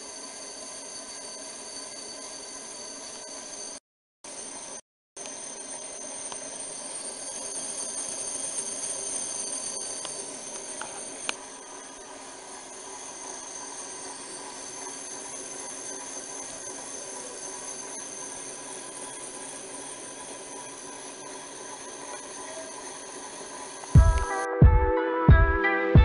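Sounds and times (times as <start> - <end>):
high blade whine: 0.0 - 24.5.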